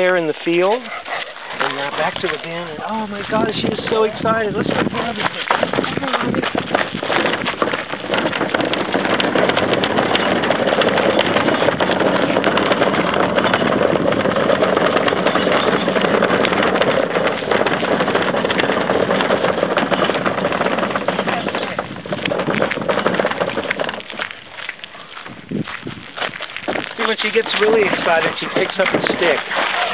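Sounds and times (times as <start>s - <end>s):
wheelie bin rolling over gravel: 0.0s - 29.9s.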